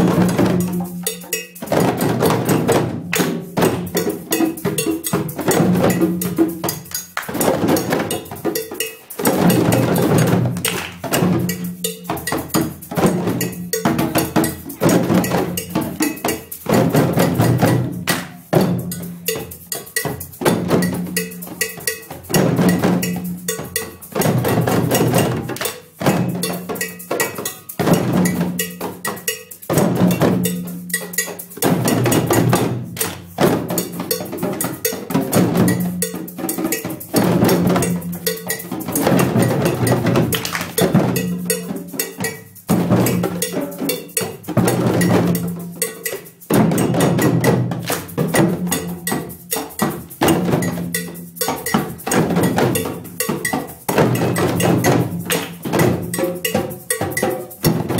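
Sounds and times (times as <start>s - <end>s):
djembes playing a rhythm: 0.0s - 57.9s.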